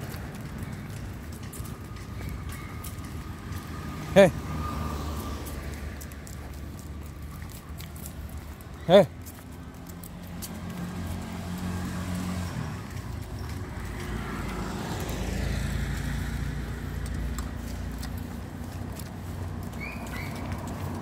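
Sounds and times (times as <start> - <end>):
vehicle passing by: 0.0 - 21.0.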